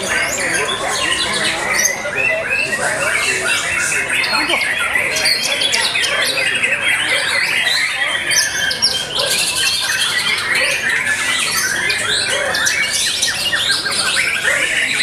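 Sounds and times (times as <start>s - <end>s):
birds singing and whistling: 0.0s - 15.0s
harsh bird chatters: 0.0s - 15.0s.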